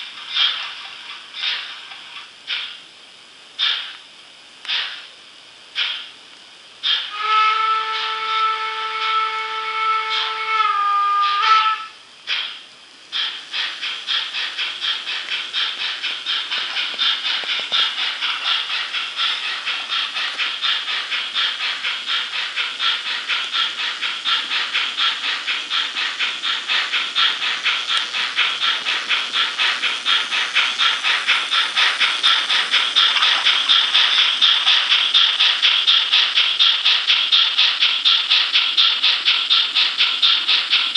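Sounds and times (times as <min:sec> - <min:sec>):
steam exhaust chuffs from speaker: 0:06.8 - 0:40.9.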